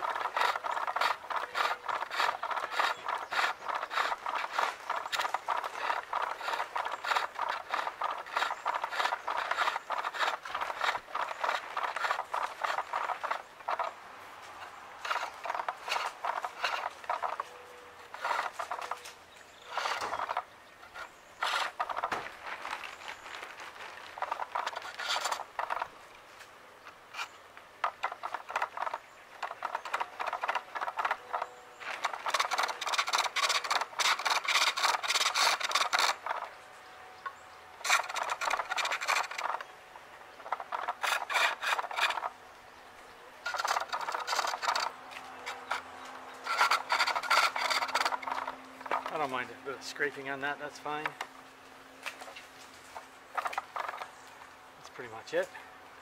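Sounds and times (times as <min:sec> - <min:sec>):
chisel scraping wood on lathe: 0:00.0 - 0:14.0, 0:14.6 - 0:22.3, 0:24.1 - 0:25.9, 0:27.1 - 0:36.6, 0:37.3 - 0:39.7, 0:40.4 - 0:42.3, 0:43.4 - 0:51.2.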